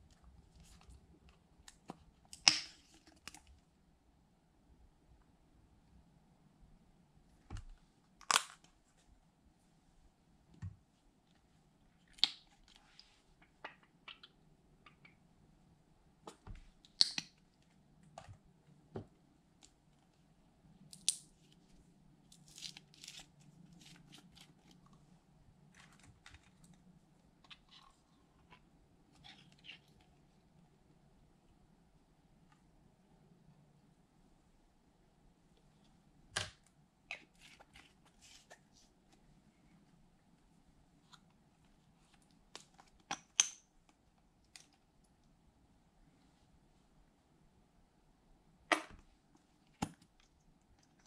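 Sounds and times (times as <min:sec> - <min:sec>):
faint room hum: 0:00.0 - 0:51.0.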